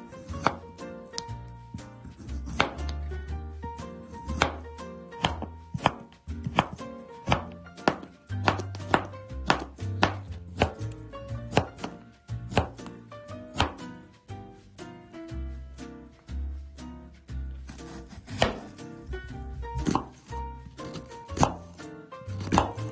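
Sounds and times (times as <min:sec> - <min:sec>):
background music with bass: 0:00.0 - 0:22.9
knife chopping on cutting board: 0:00.2 - 0:03.1, 0:03.7 - 0:14.0, 0:17.6 - 0:22.9.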